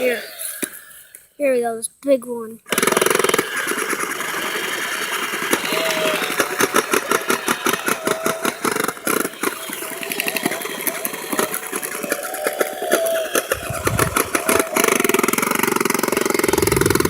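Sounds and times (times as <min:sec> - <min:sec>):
toy chainsaw rattling whine: 0:00.0 - 0:01.6, 0:02.6 - 0:17.0.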